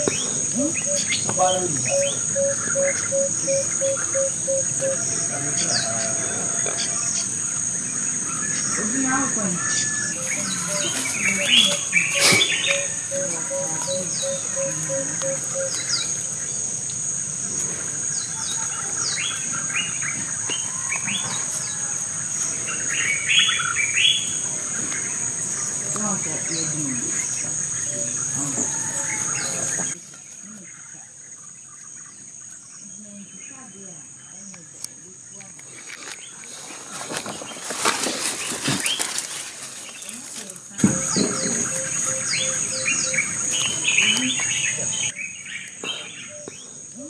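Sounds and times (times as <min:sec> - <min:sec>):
high-pitched insect drone: 0:00.0 - 0:30.0, 0:37.0 - 0:45.2
birds chirping: 0:00.0 - 0:47.0.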